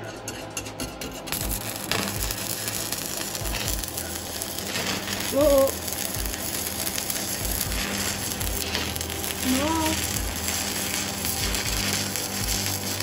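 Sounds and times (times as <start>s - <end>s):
welding arc burning: 0.6s - 13.0s.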